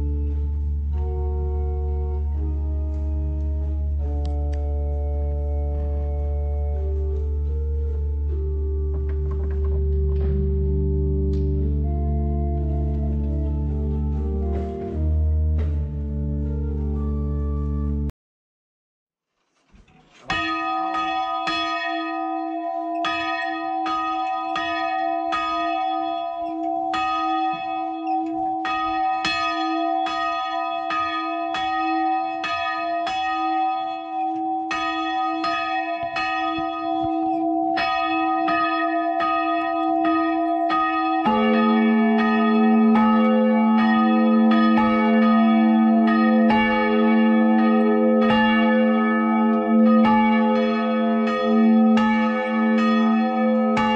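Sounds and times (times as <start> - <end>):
church bells ringing: 0.0 - 18.1, 20.2 - 53.9.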